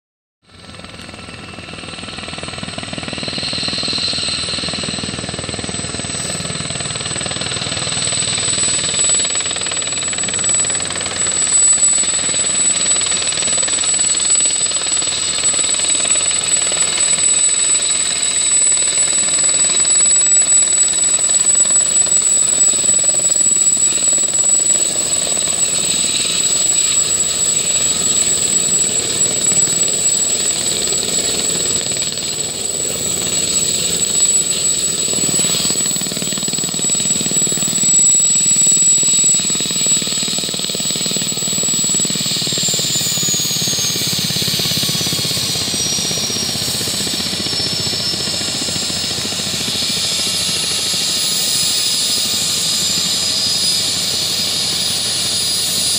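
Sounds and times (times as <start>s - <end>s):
helicopter rotor and turbine: 0.4s - 55.9s
high whine: 1.0s - 55.9s.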